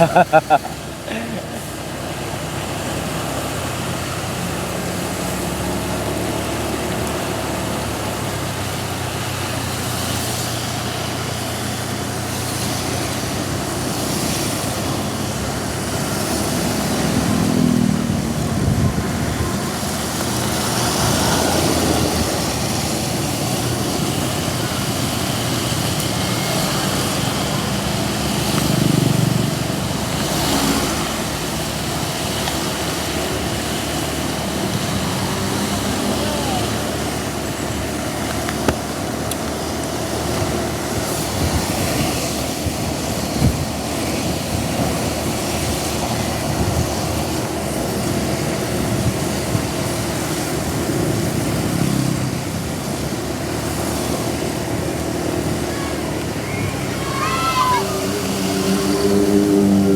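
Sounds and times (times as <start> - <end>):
steady traffic rushing noise: 0.0 - 59.9
vehicle engines running: 0.0 - 59.9
vehicles passing: 0.0 - 59.9.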